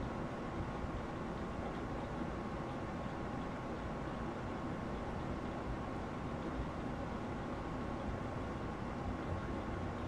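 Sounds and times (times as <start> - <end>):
faint high hum: 0.0 - 10.0.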